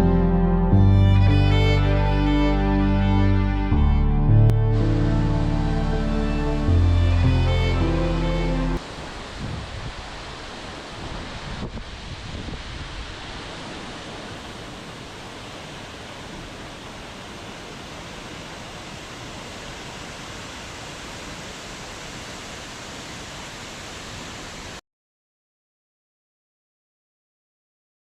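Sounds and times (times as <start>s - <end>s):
water rushing: 1.0s - 4.0s, 4.6s - 24.8s.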